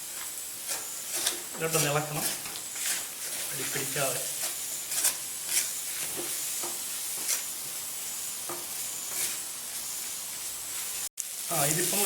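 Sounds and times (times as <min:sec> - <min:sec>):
spoon scraping pan: 0:00.0 - 0:11.0
onions sizzling in hot oil: 0:00.0 - 0:12.0.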